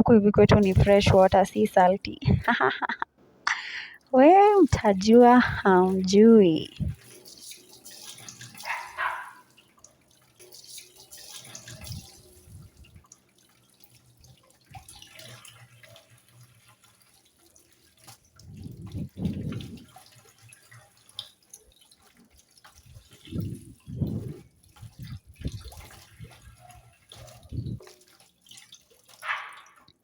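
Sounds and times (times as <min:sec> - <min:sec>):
tap water running and splashing: 0:00.4 - 0:30.0.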